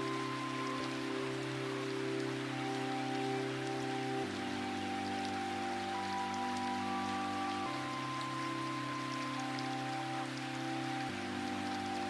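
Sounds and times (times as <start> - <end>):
rain falling: 0.0 - 12.0
slow instrumental hymn music: 0.0 - 12.0.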